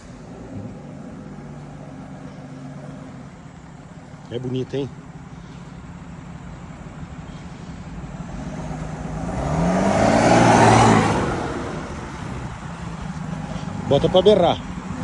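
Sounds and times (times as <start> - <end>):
diesel truck accelerating past: 0.0 - 15.0.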